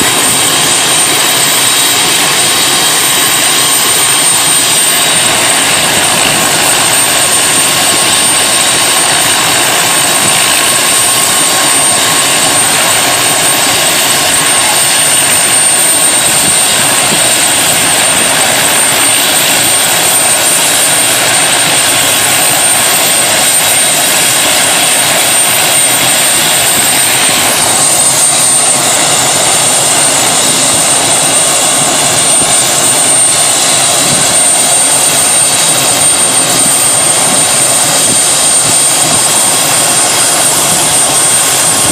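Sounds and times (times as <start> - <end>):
helicopter engine and rotor noise: 0.0 - 41.9
high steady whine: 0.0 - 41.9.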